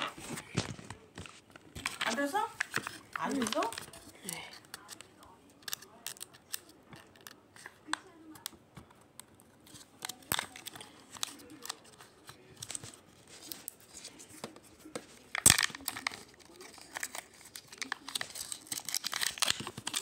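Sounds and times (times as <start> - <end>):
packaging crinkling and tearing: 0.0 - 8.0, 9.6 - 14.2, 15.2 - 20.0.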